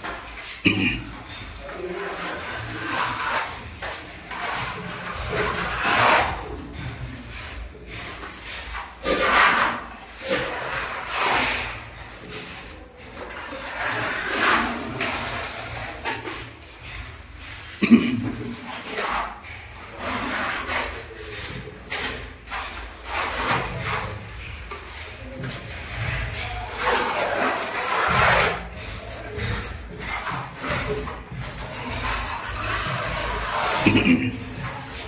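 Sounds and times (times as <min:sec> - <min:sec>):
putty knife scraping plaster: 0:00.0 - 0:35.0.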